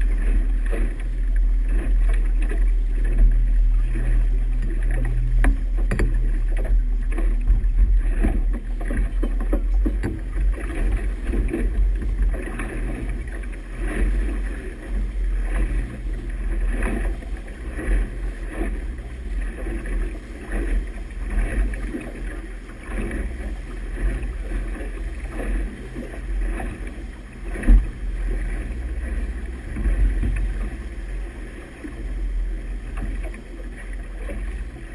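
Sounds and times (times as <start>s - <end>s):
boat engine hum: 0.0s - 34.9s
propeller wash splashing: 0.0s - 34.9s.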